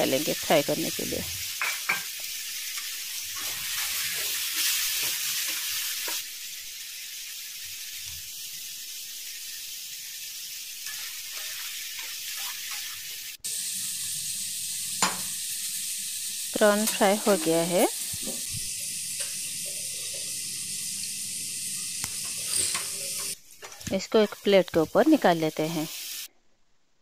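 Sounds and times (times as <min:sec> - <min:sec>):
prawns sizzling in hot oil: 0:00.0 - 0:26.3.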